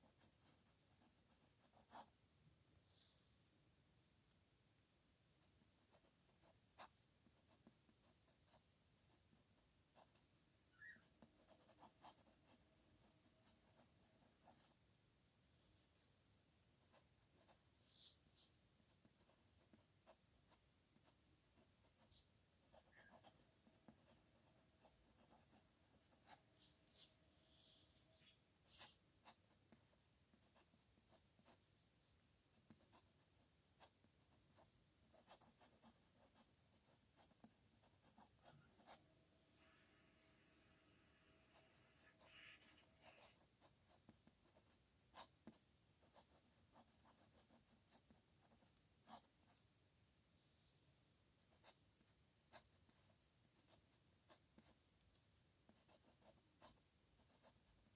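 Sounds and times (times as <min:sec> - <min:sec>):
pen scratching on paper: 0:00.0 - 0:02.2, 0:05.8 - 0:14.9, 0:16.8 - 0:21.2, 0:21.8 - 0:33.2, 0:33.8 - 0:49.7, 0:50.3 - 0:57.9.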